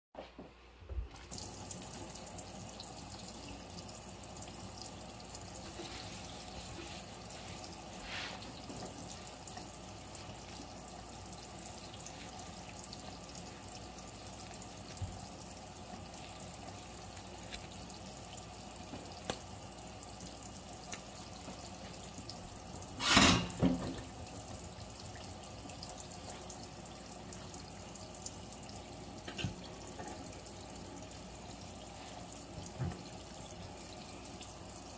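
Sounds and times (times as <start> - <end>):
tap water running into sink: 1.1 - 34.9.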